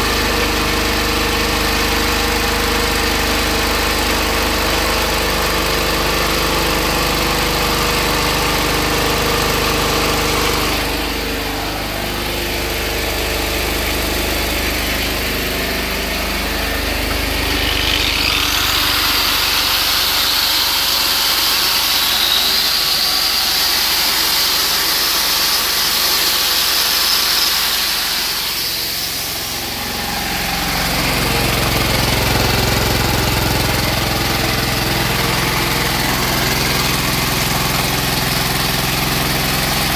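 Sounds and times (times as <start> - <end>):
diesel engine running steadily: 0.0 - 39.9
angle grinder whining: 1.4 - 39.9.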